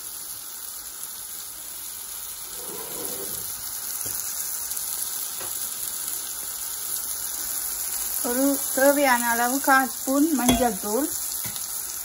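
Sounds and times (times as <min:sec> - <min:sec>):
onions frying in oil: 0:00.0 - 0:12.0.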